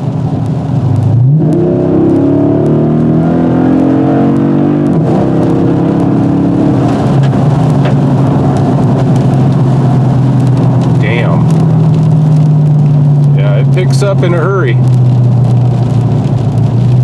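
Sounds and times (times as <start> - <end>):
car engine accelerating hard: 0.2 - 17.0.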